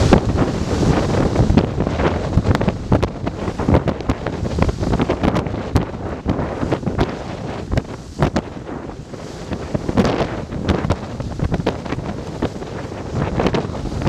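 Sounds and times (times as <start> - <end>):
faint sea noise: 0.0 - 14.0
wind buffeting microphone: 0.0 - 14.0.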